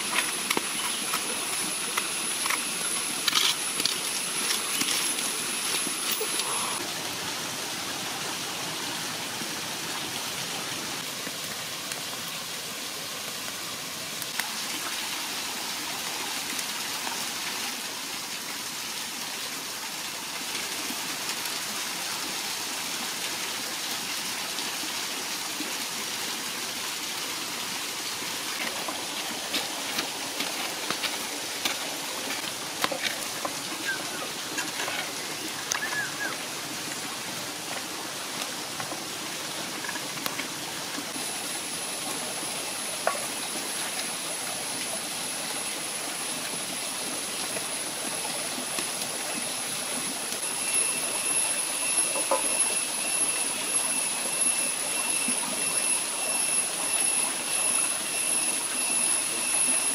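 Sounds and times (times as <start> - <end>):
wood fire hissing and crackling: 0.0 - 59.9.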